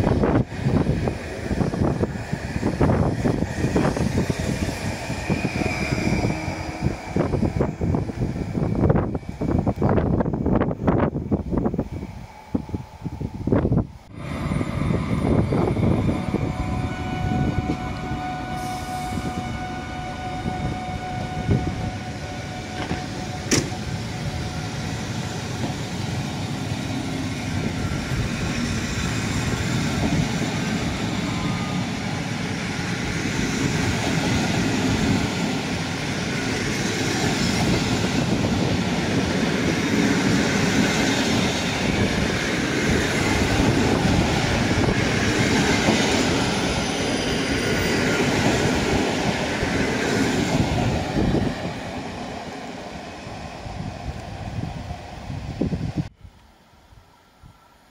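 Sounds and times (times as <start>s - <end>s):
train wheels rumbling on rail: 0.0s - 56.2s.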